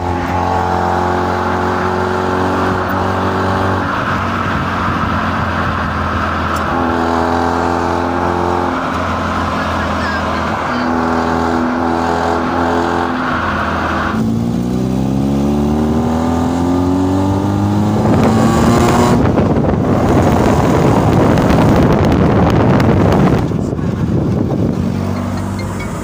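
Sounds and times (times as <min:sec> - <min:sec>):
car engine accelerating: 0:00.0 - 0:26.0
rushing wind and road noise: 0:00.0 - 0:26.0.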